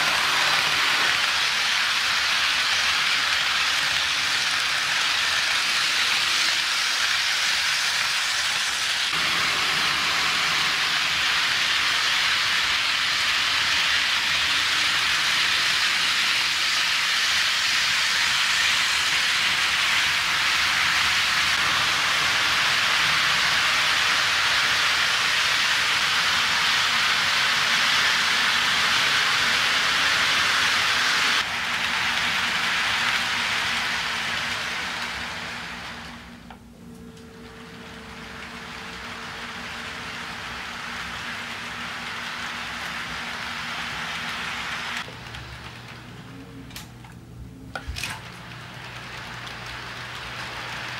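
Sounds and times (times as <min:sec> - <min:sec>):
model train wheels hissing: 0:00.0 - 0:36.4, 0:38.2 - 0:45.1.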